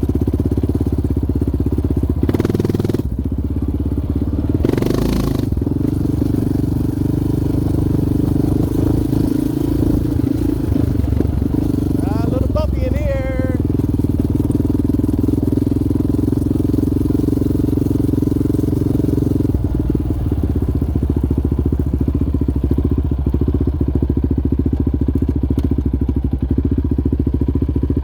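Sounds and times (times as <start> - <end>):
quad engine running: 0.0 - 28.0.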